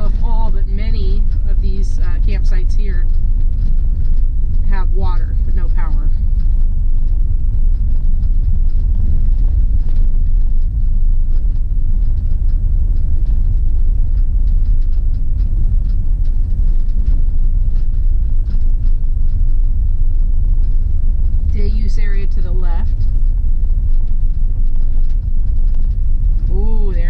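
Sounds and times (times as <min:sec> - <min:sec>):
vehicle rumbling on paved road: 0:00.0 - 0:27.0.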